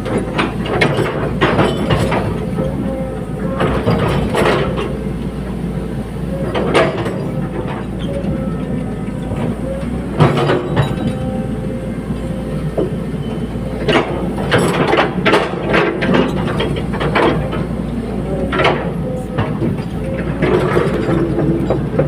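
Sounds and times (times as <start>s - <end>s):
steel clanking and rattling: 0.0s - 5.0s, 6.4s - 22.0s
excavator diesel engine running: 0.0s - 22.0s.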